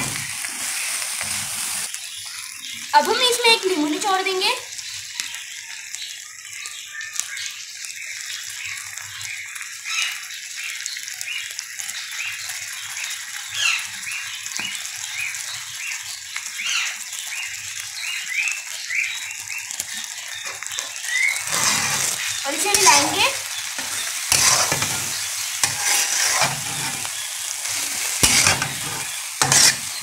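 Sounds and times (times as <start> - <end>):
liver sizzling in a pan: 0.0 - 30.0.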